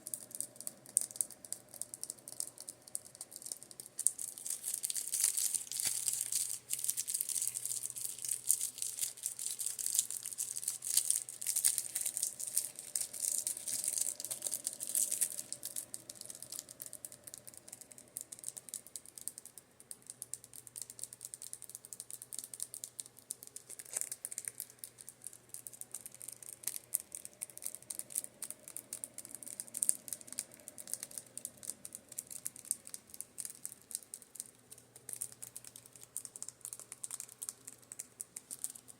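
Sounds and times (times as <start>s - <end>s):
faint fan hum: 0.0s - 38.9s.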